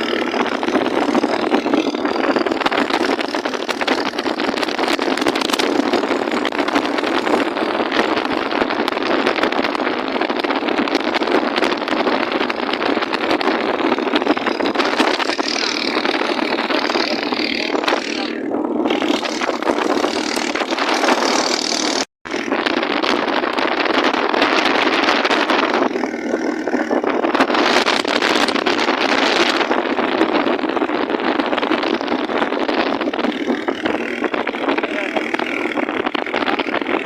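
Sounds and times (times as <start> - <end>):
boat motor running: 0.0 - 37.0
loud rushing noise: 0.0 - 37.0.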